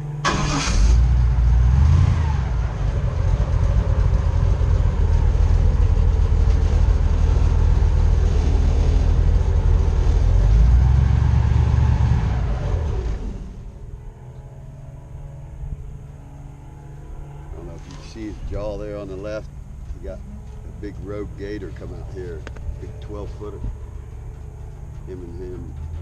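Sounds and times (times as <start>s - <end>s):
airboat engine and propeller drone: 0.0s - 26.0s.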